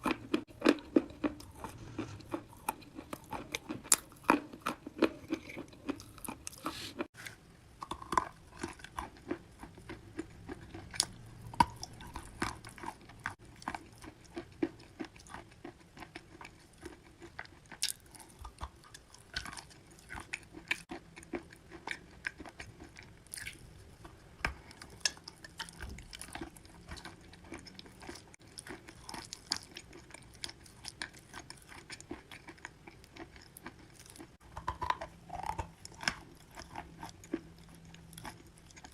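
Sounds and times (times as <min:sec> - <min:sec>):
chewing chalk crunching: 0:00.0 - 0:38.9.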